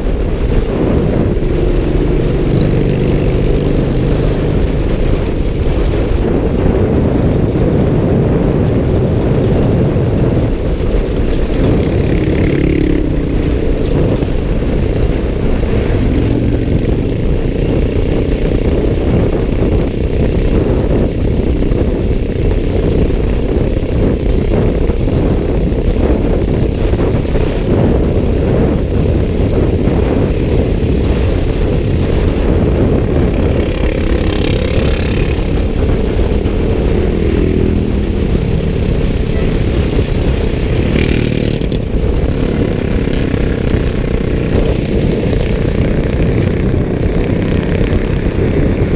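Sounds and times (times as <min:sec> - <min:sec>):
motorcycle engine rumble: 0:00.0 - 0:48.9.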